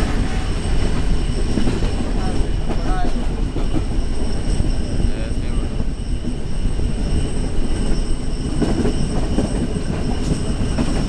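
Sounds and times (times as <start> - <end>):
train coach rattling: 0.0 - 11.0.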